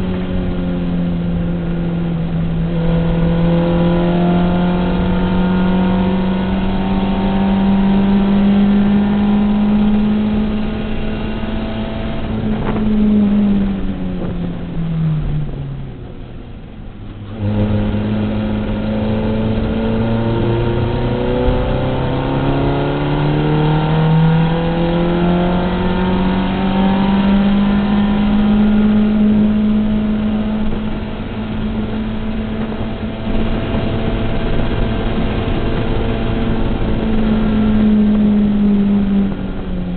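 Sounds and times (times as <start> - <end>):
race car engine revving: 0.0 - 16.3, 17.1 - 39.9.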